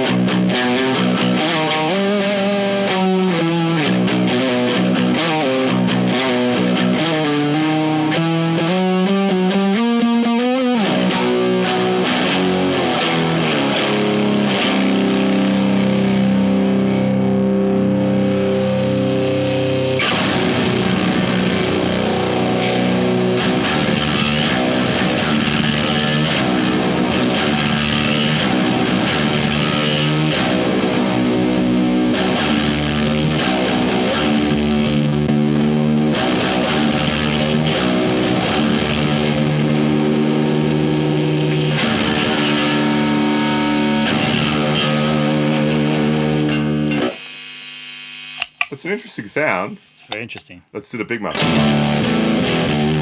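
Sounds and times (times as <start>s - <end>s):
distorted electric guitar chords: 0.0s - 48.6s, 51.3s - 53.0s.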